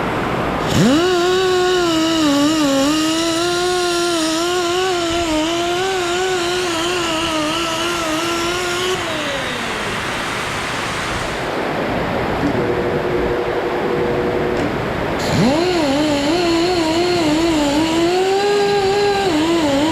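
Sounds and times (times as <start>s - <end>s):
wire wheel power tool whining: 0.0s - 11.7s, 14.6s - 19.9s.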